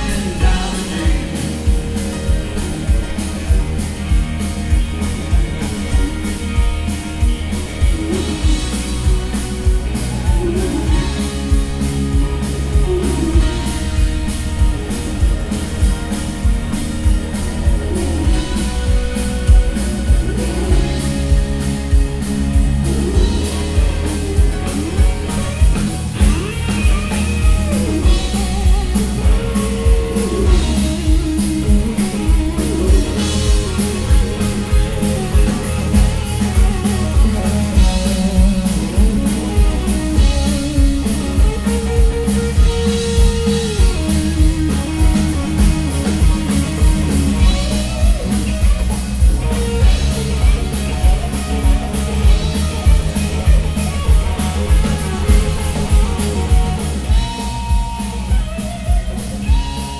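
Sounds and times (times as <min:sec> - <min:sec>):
bass: 0:00.0 - 0:59.9
drum kit beat: 0:00.0 - 0:59.9
electric guitars: 0:00.0 - 0:59.9.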